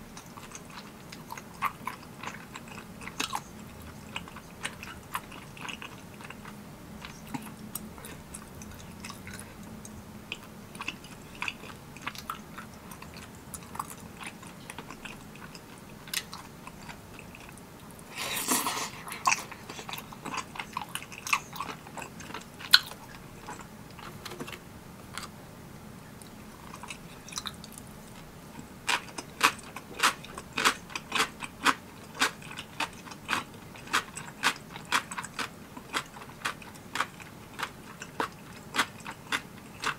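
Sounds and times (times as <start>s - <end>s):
close-up chewing: 0.1s - 25.3s, 26.2s - 39.9s.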